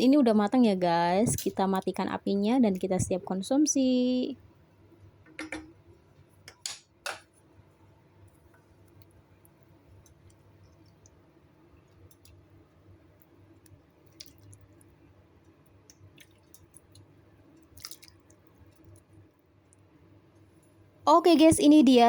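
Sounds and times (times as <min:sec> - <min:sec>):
faint room hum: 0:00.0 - 0:22.0.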